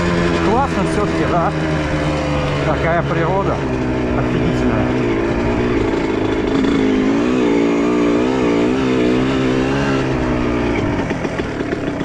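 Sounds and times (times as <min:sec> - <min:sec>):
two-stroke motorcycle engine: 0:00.0 - 0:12.0.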